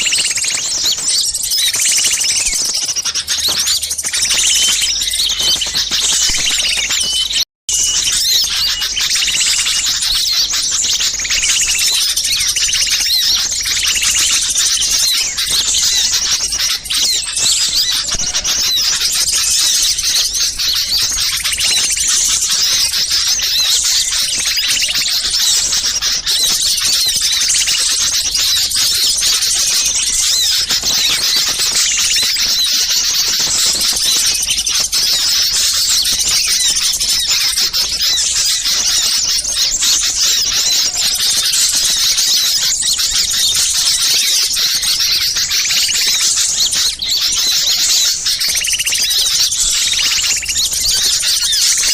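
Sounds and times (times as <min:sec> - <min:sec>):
many small songbirds chirping: 0:00.0 - 0:51.9.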